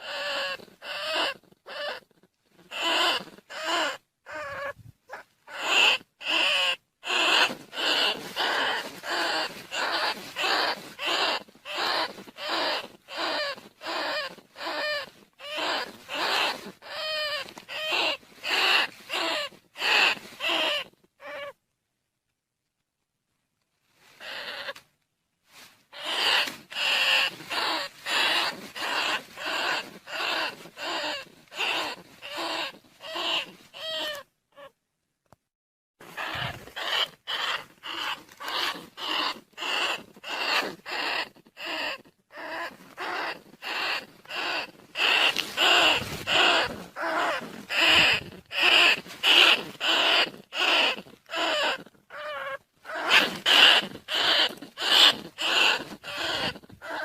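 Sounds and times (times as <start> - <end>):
rats squeaking: 0.0 - 21.6, 24.2 - 24.8, 25.9 - 34.7, 36.0 - 57.0.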